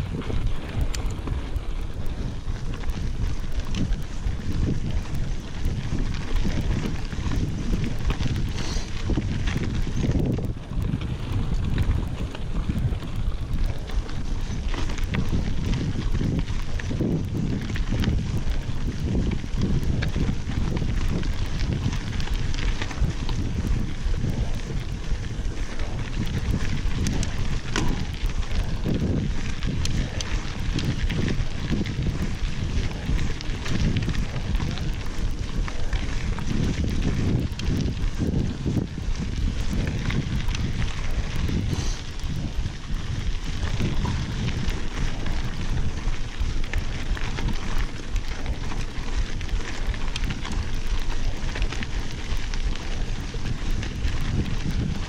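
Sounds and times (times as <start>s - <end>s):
bike rattling clicks: 0.0s - 55.0s
tyres crunching on gravel: 0.0s - 55.0s
wind buffeting microphone: 0.0s - 55.0s.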